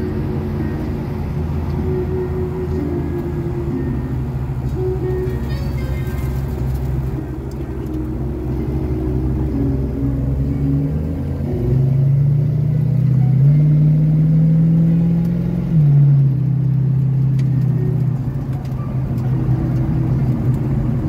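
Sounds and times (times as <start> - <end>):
car engine from inside cabin: 0.0 - 21.0.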